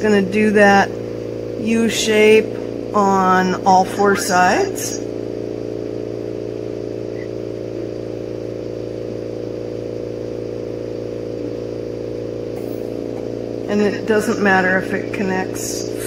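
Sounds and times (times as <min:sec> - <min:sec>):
motor-driven equipment humming: 0:00.0 - 0:16.0.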